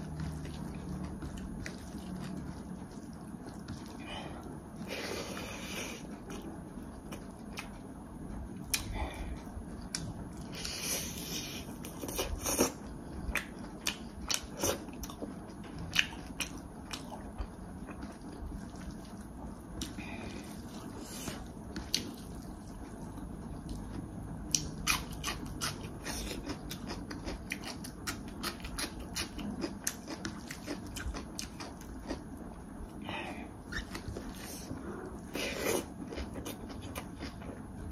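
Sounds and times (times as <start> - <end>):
person chewing food: 0.0 - 8.0, 8.6 - 37.9.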